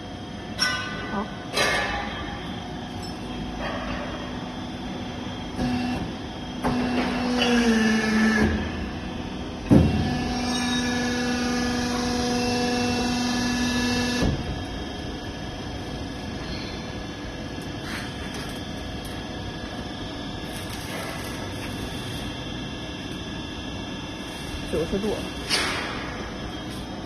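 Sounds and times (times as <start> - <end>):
bending machine motor humming: 4.3 - 27.0.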